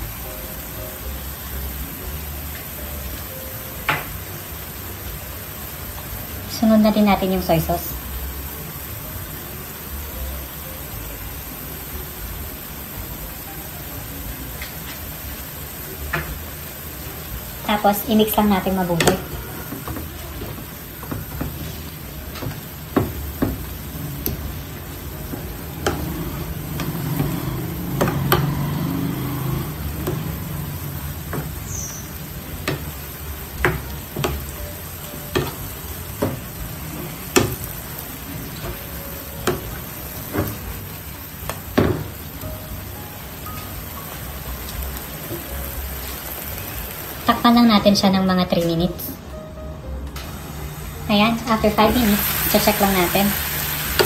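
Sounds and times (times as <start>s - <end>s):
meat sizzling in a frying pan: 0.0s - 48.8s, 50.2s - 54.0s.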